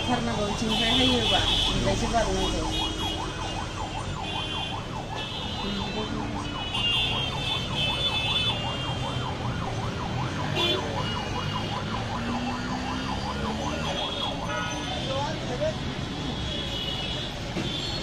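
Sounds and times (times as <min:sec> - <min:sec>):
emergency vehicle siren wailing: 0:00.0 - 0:18.0.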